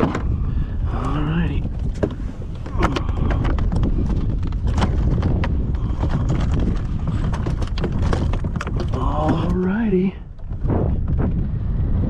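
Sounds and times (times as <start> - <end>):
wind rumbling on microphone: 0.0 - 12.0
hollow knocks and clicks: 1.6 - 11.5.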